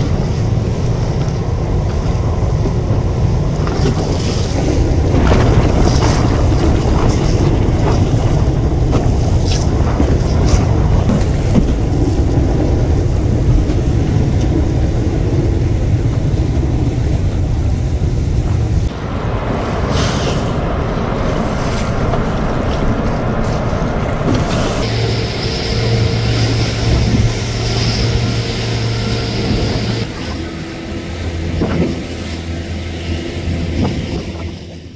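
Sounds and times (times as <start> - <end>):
boat engine running: 0.0 - 34.9
heavy low rumbling noise: 0.0 - 34.9.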